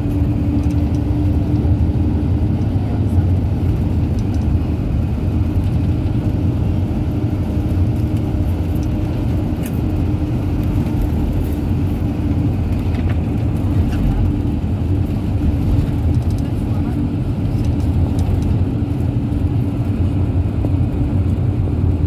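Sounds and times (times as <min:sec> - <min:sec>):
bus engine and tyres rumbling: 0:00.0 - 0:22.0.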